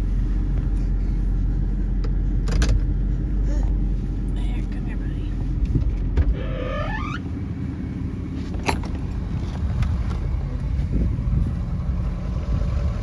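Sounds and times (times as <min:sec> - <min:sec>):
vehicle driving rumble: 0:00.0 - 0:13.0.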